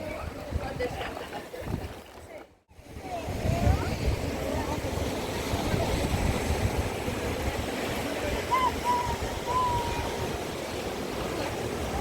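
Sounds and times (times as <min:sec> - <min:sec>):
surf washing onto beach: 0:00.0 - 0:12.0
wind buffeting microphone: 0:00.0 - 0:12.0.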